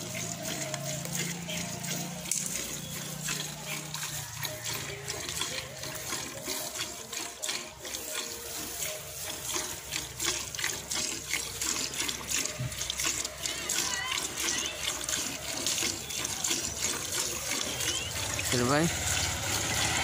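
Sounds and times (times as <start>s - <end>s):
milk squirting into steel bucket: 0.0s - 20.0s.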